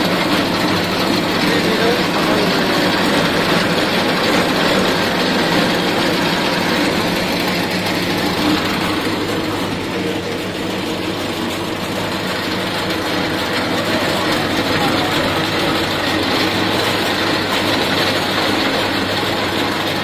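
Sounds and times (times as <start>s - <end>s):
dehusking machine mechanical din: 0.0s - 20.0s.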